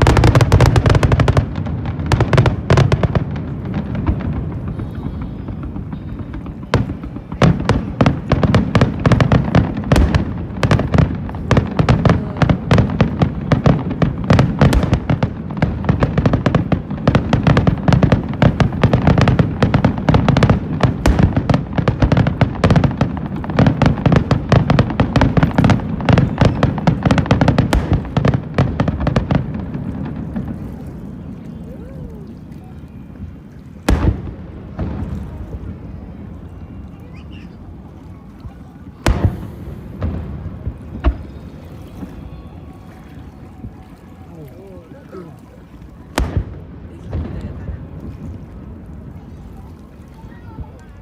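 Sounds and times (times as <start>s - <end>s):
continuous low rumble: 0.0s - 51.0s
fireworks bangs and crackles: 0.0s - 51.0s.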